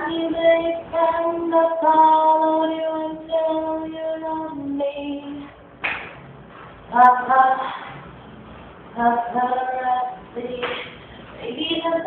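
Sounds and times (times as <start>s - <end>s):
pop song: 0.0s - 5.6s, 6.9s - 8.0s, 9.0s - 12.0s.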